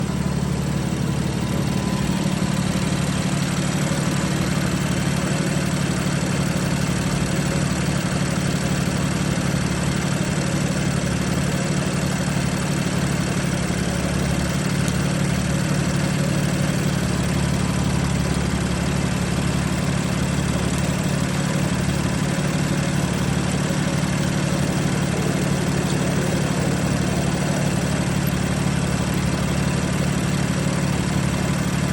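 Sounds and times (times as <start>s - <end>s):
car engine idling with misfire: 0.0s - 31.9s.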